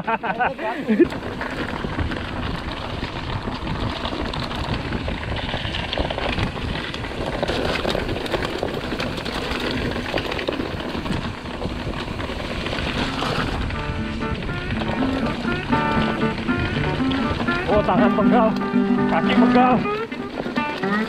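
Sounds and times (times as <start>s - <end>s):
bike rattling over bumps: 0.0s - 21.0s
tyres crunching over stones: 0.6s - 21.0s.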